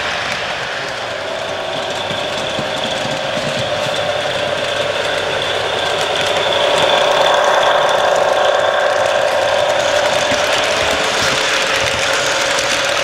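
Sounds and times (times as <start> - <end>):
model diesel locomotive engine sound: 0.0 - 13.0
model train rattling on track: 0.0 - 13.0.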